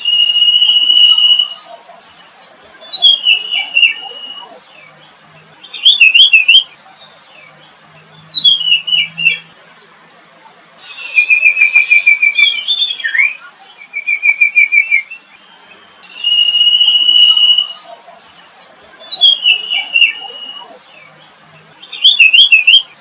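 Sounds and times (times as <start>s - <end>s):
bird trills: 0.0s - 9.8s, 10.8s - 23.0s
songbirds whistling: 0.0s - 23.0s.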